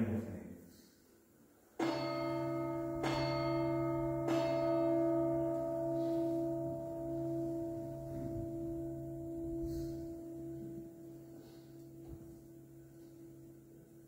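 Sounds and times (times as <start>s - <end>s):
bell ringing: 1.8s - 13.4s.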